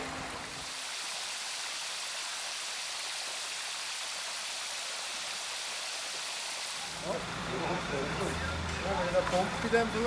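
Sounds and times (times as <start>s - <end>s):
water hissing from fire hose: 0.0s - 10.0s.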